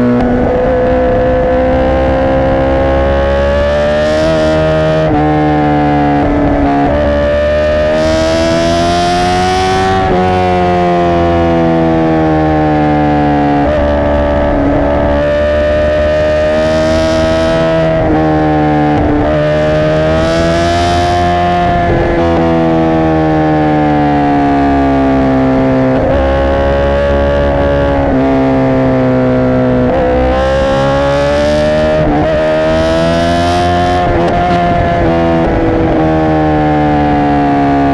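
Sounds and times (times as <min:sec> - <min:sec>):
motorcycle engine at high revs: 0:00.0 - 0:37.9.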